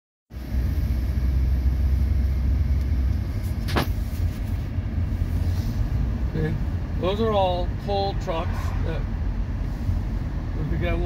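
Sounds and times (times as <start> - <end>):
car rumbling inside cabin: 0.3 - 11.0.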